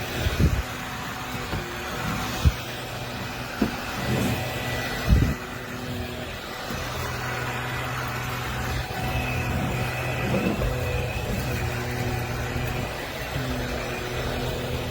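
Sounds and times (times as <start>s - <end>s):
stick vacuum running: 0.0s - 14.9s.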